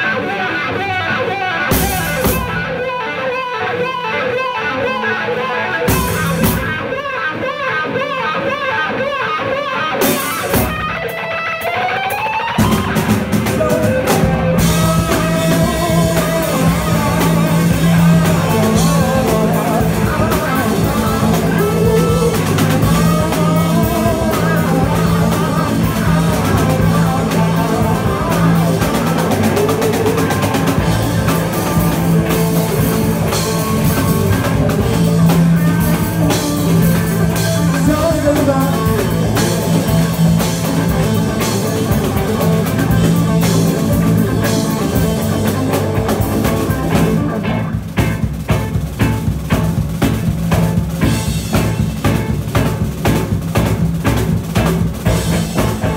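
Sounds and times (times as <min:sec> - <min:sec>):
bass guitar: 0:00.0 - 0:55.9
drums: 0:00.0 - 0:55.9
electric guitar: 0:00.0 - 0:55.9.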